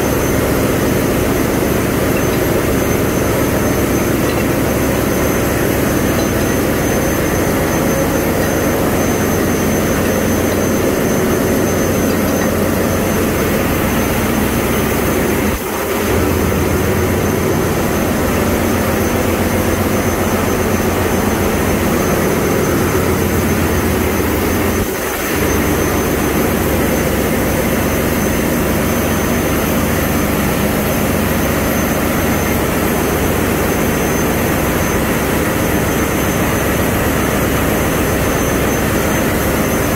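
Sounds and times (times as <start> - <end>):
engine room machinery noise: 0.0 - 39.9
faint high whine: 0.0 - 39.9.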